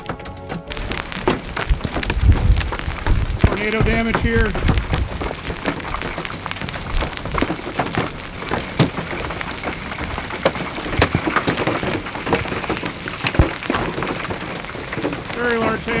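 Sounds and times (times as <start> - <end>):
hailstones cracking on truck: 0.0 - 16.0
rain patter on truck: 0.0 - 16.0.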